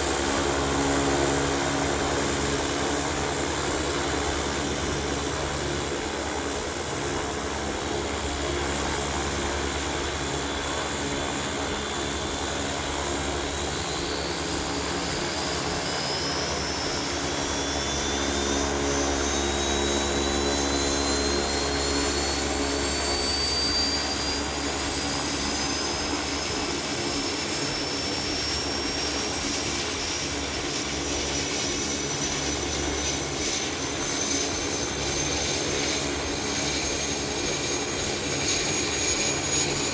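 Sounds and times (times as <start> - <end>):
turboprop engines whining: 0.0 - 39.9.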